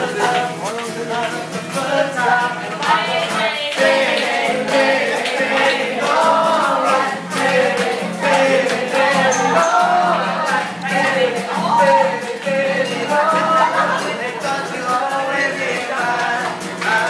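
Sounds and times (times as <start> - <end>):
person singing: 0.0 - 17.0
strummed acoustic guitar: 0.0 - 17.0.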